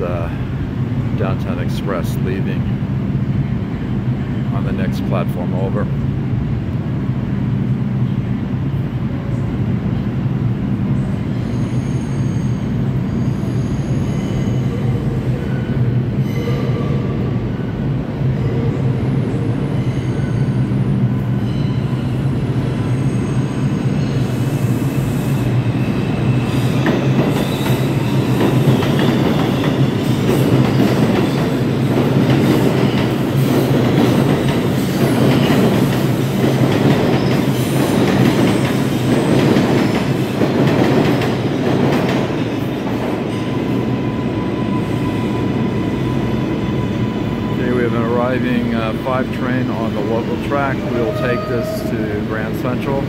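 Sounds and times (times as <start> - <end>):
subway train passing: 0.0 - 53.0.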